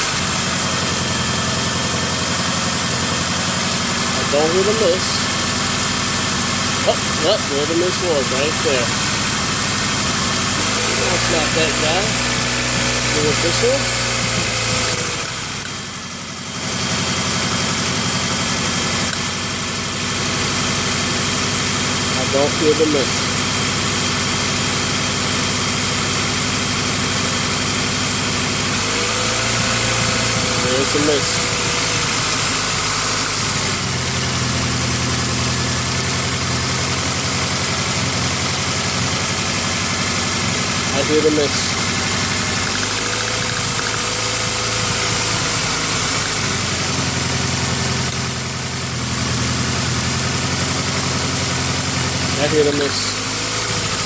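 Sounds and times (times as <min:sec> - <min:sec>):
car engine idling unevenly: 0:00.0 - 0:54.0.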